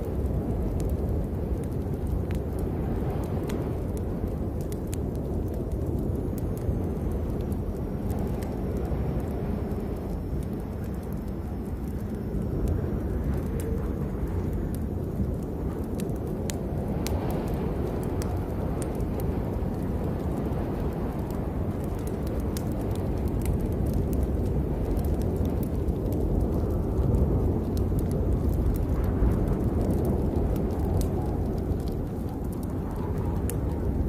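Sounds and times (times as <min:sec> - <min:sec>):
sharp raindrop ticks: 0:00.0 - 0:34.0.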